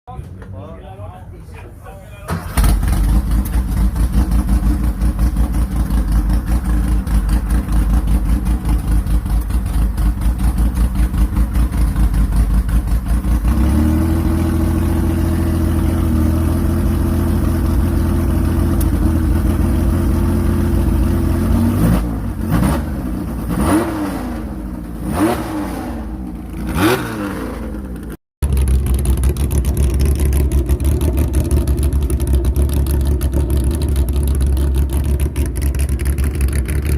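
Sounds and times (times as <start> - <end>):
car engine idling: 0.8 - 22.5, 27.6 - 36.9
car engine revving: 2.4 - 36.9.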